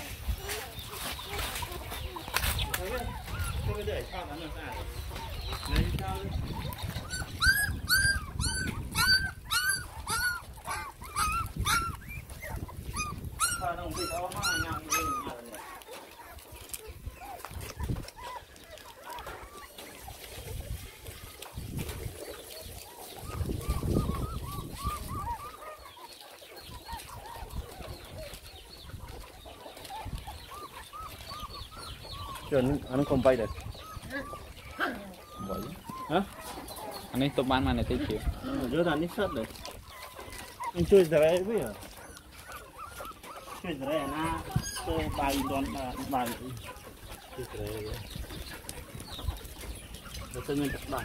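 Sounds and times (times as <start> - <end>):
young animals squeaky cries: 0.0 - 51.0
puppy whimpering: 0.4 - 21.4, 22.1 - 51.0.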